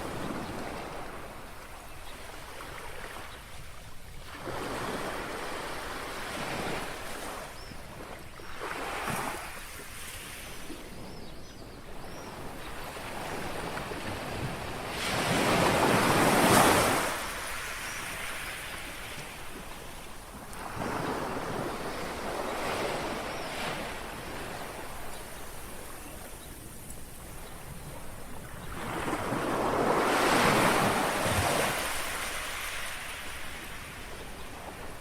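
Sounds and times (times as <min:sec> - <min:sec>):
small waves lapping on shore: 0:00.0 - 0:11.1, 0:11.8 - 0:35.0.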